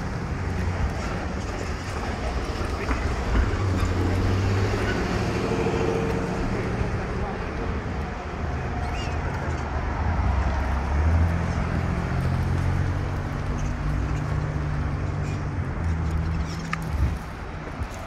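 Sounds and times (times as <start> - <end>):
city street noise: 0.0 - 18.0.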